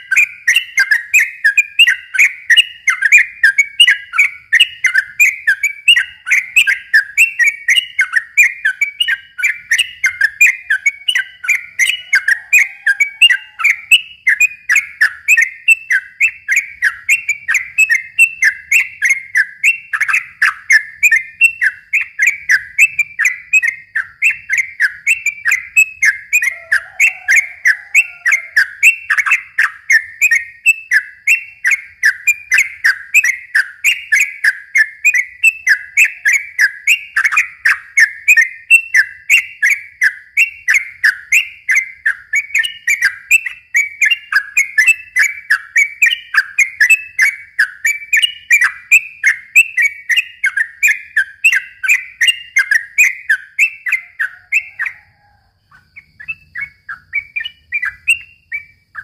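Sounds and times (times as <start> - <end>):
bird chattering song: 0.0 - 59.0.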